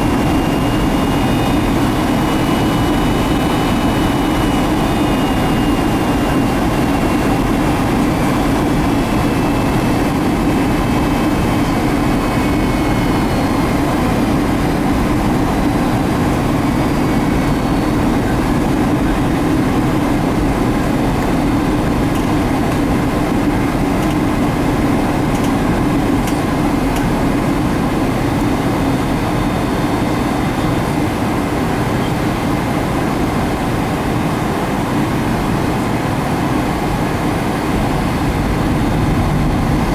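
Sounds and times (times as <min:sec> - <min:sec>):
jet engine and airflow noise: 0:00.0 - 0:39.9.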